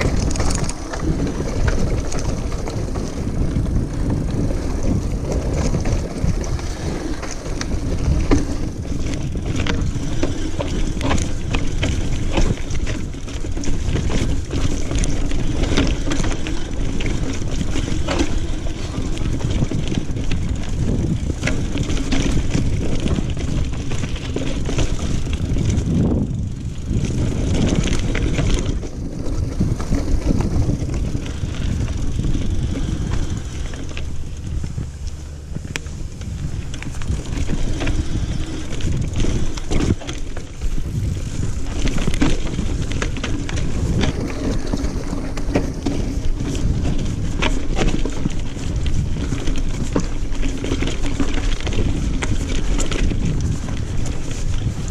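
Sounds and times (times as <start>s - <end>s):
bike knocks and rattles: 0.0s - 54.9s
tyres crunching on dirt and stones: 0.0s - 54.9s
wind on the microphone: 0.0s - 54.9s.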